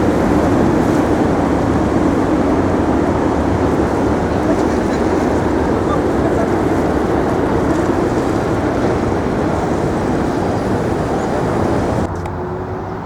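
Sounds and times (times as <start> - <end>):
wind on microphone: 0.0 - 12.1
waterfront noise: 0.0 - 13.0.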